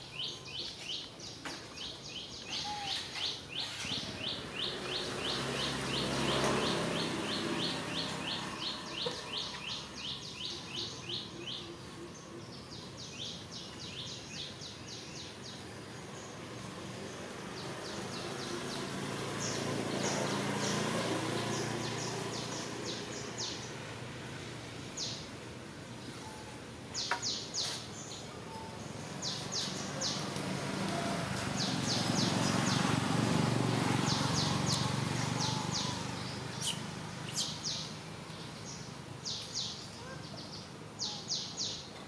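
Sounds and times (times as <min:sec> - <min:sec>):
bird chirping: 0:00.0 - 0:24.0, 0:26.0 - 0:30.4, 0:31.4 - 0:42.0.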